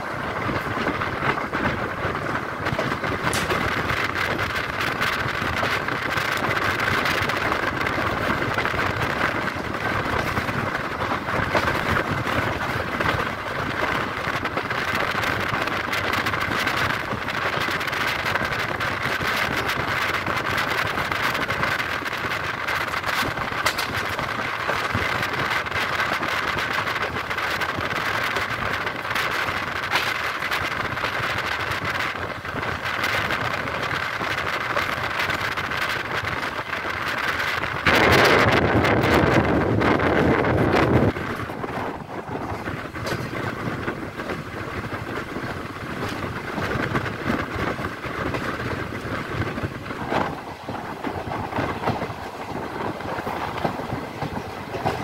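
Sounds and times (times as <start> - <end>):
train wheel-on-rail noise: 0.0 - 55.0
wind rushing past train: 0.0 - 55.0.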